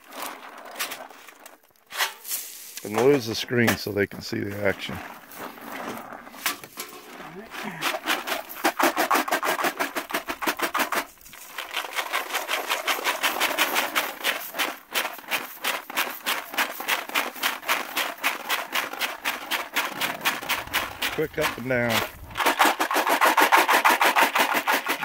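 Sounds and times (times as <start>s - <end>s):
sand and gravel rattling in metal: 0.0s - 25.0s.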